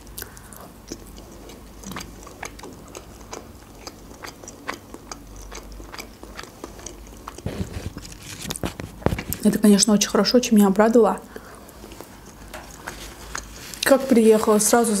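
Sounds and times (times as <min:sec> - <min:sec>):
wet mouth chewing: 0:00.0 - 0:09.4, 0:11.3 - 0:13.9.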